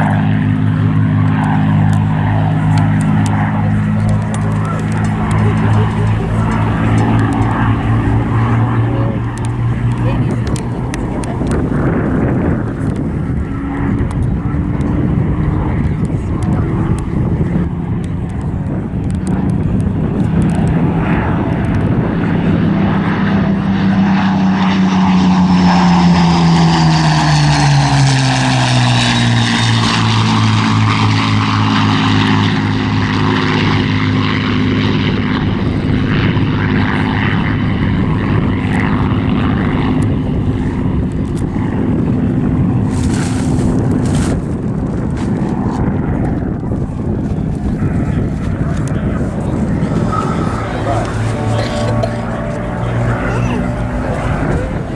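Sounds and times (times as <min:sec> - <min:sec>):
propeller aircraft engine passing: 0:00.0 - 0:54.9.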